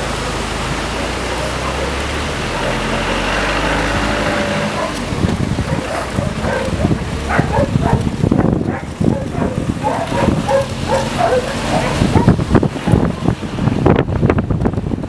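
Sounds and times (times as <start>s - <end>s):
choppy irregular low rumble: 0.0s - 15.0s
noisy rush: 0.0s - 15.0s
vehicle engine running: 0.0s - 15.0s.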